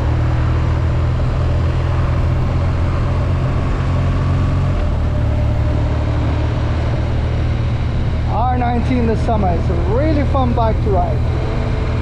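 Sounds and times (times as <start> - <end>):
motorcycle engine cruising: 0.0 - 12.0
rushing wind: 0.0 - 12.0.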